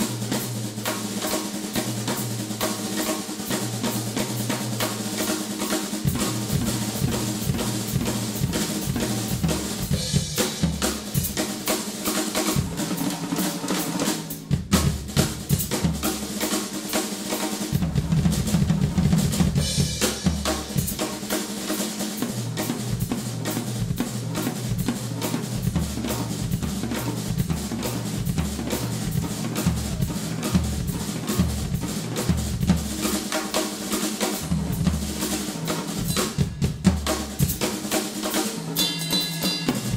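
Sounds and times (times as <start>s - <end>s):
rock drum kit playing: 0.0s - 39.9s.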